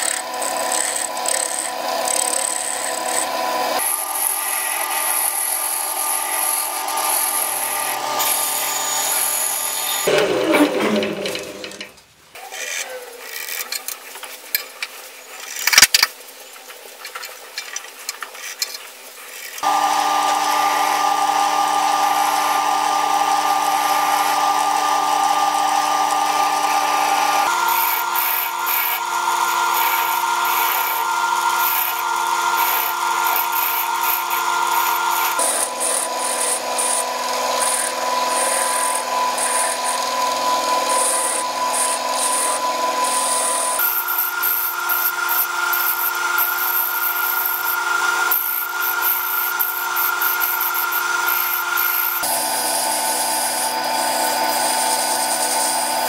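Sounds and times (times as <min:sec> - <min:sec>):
lathe motor whine: 0:00.0 - 0:11.9, 0:19.6 - 0:56.0
turning tool scraping wood: 0:00.0 - 0:52.4.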